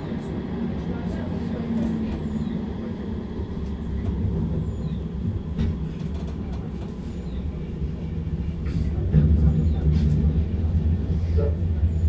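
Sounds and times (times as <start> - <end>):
tram running low rumble: 0.0 - 12.0.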